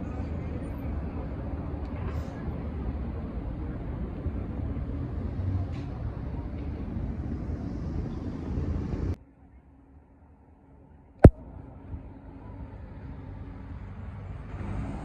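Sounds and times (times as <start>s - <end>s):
passing cars rumble: 0.0s - 9.2s, 11.3s - 15.0s
faint distant voices: 0.0s - 15.0s.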